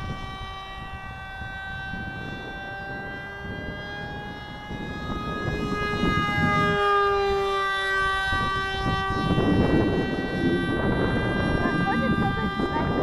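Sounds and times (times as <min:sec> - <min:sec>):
low wind rumble: 0:00.0 - 0:13.0
model airplane motor whining: 0:01.9 - 0:13.0.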